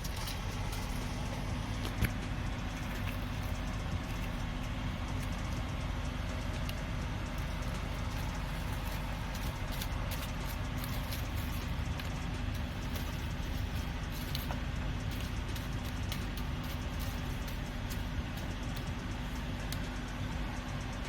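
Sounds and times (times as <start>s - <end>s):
light clicks and ticks: 0.0s - 21.0s
truck diesel engine idling: 0.0s - 21.0s.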